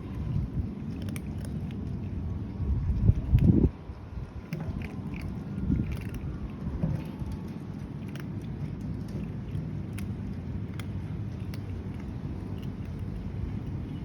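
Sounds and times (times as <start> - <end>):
cat chewing food: 0.0 - 14.0
steady low rumble: 0.0 - 14.0.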